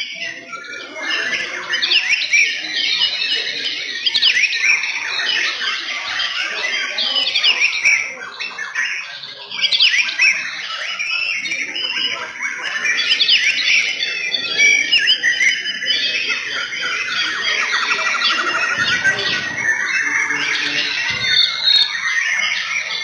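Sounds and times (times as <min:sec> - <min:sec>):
birds singing whistles and trills: 0:00.0 - 0:23.0.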